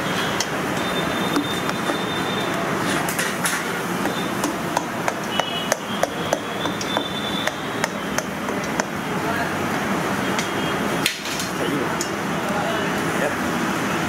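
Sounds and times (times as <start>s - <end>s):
kitchen background noise: 0.0s - 14.0s.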